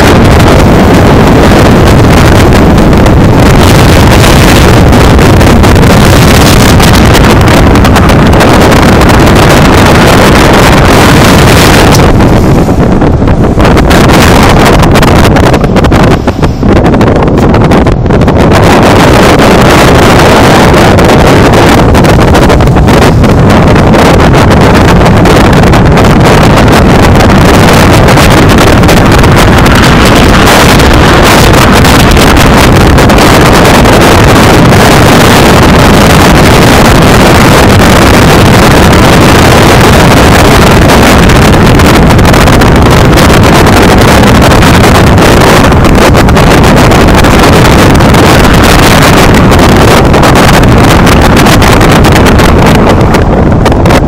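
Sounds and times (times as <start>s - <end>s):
road noise: 0.0s - 52.2s
wind buffeting microphone: 0.0s - 54.0s.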